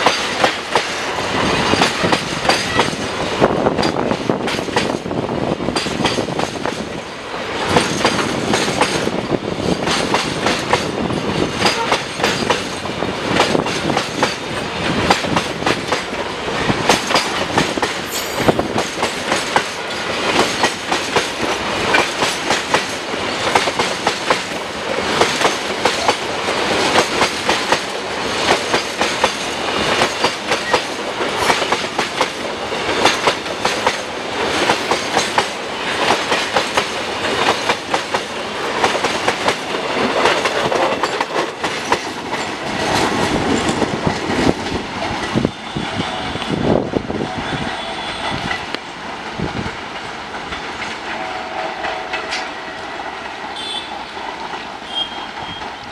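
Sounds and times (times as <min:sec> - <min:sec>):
freight train wheels clattering: 0:00.0 - 0:55.9.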